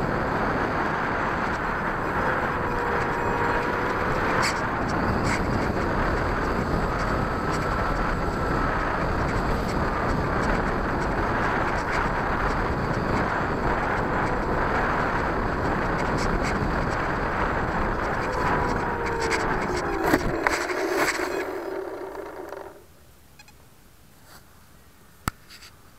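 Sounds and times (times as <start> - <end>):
motor and propeller whine: 0.0 - 23.0.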